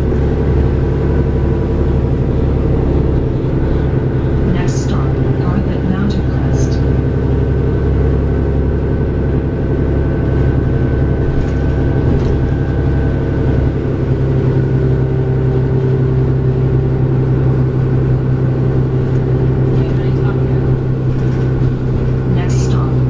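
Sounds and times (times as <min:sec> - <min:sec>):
bus diesel engine running: 0:00.0 - 0:23.0
steady higher whine: 0:00.0 - 0:23.0.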